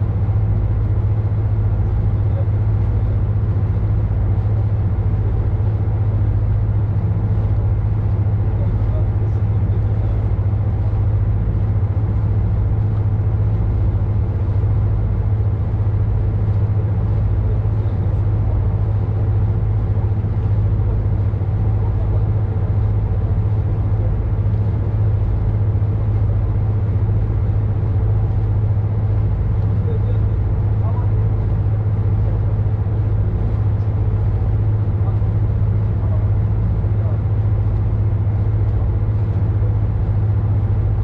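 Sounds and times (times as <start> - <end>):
sea and hull noise: 0.0 - 41.0
ship engine droning: 0.0 - 41.0.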